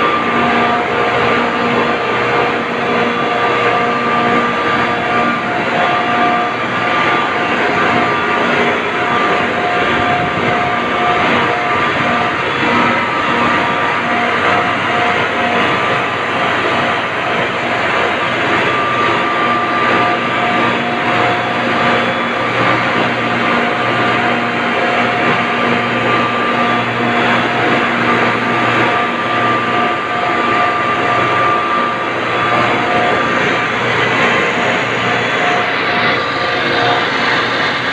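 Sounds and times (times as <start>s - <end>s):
refrigeration compressors droning: 0.0s - 37.9s
steady whining tones: 0.0s - 37.9s.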